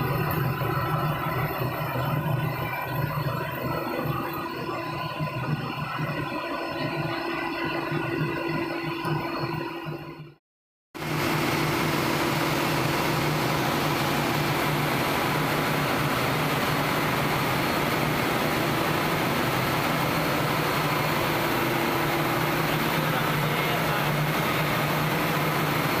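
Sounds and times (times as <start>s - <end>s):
engine room machinery din: 0.0s - 10.4s, 11.0s - 26.0s.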